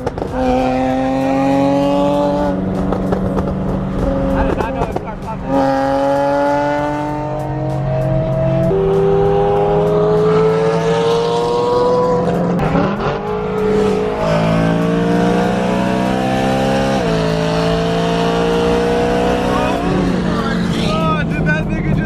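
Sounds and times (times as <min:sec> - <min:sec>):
car engine accelerating through gears: 0:00.0 - 0:22.0.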